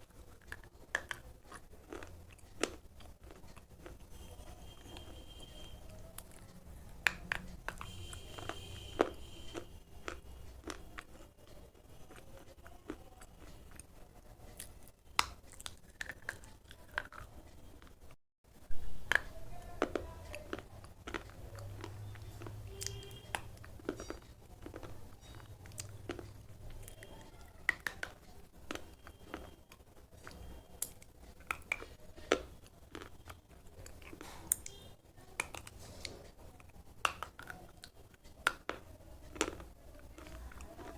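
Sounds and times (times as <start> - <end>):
pencil being chewed and crunched: 0.1 - 11.3, 12.0 - 17.9, 19.1 - 40.9.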